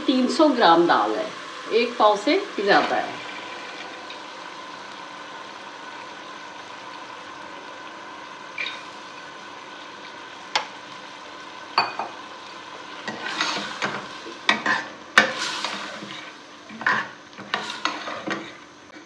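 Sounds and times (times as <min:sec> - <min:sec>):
lentils sizzling and scraping: 0:00.5 - 0:19.0.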